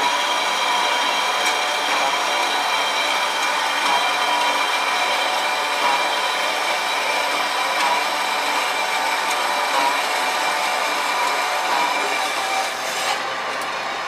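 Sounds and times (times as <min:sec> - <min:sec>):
bandsaw cutting metal: 0:00.0 - 0:13.8.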